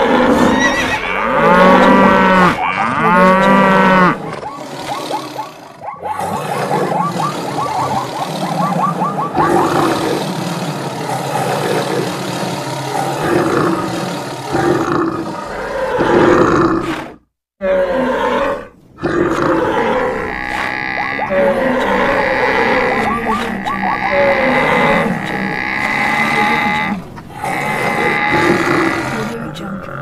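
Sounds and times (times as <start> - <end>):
animal calls: 0.0 - 17.0, 17.6 - 29.4.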